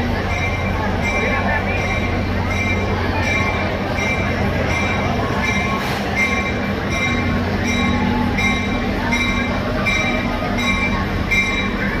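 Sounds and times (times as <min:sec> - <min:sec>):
diesel locomotive engine hum: 0:00.0 - 0:12.0
locomotive bell ringing: 0:00.0 - 0:12.0.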